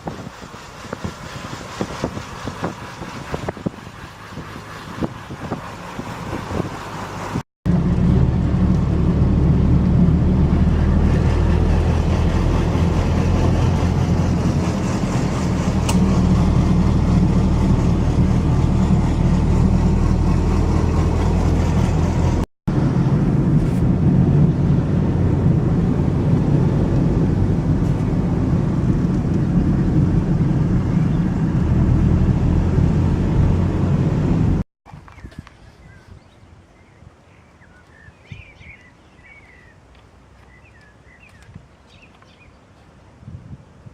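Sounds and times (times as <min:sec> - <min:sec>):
car engine rumble: 0:00.0 - 0:35.4
road noise: 0:00.0 - 0:43.9.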